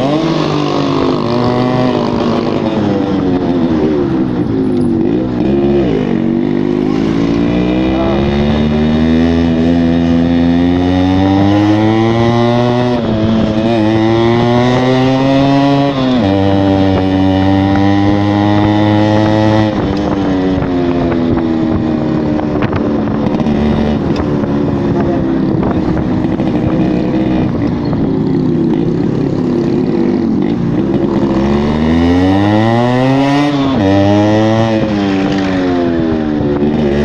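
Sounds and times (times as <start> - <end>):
motorcycle engine revving: 0.0 - 37.0
two-stroke motorcycle engine running: 0.0 - 37.0.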